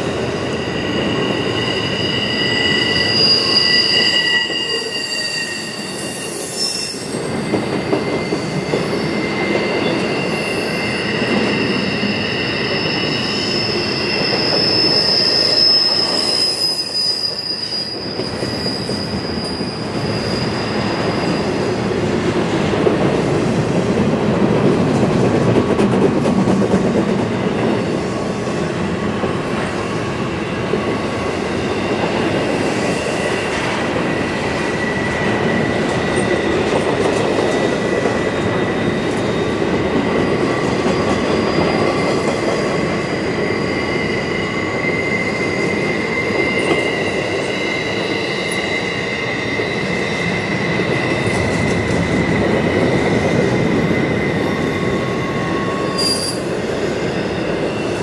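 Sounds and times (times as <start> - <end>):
high wheel squeal: 0.0 - 22.1, 29.6 - 58.0
freight train wheels rumbling: 0.0 - 58.0.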